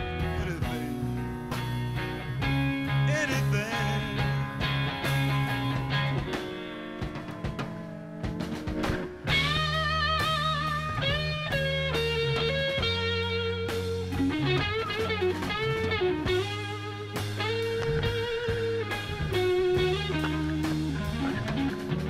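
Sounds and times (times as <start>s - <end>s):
electric guitar lead with bent notes: 0.0s - 22.0s.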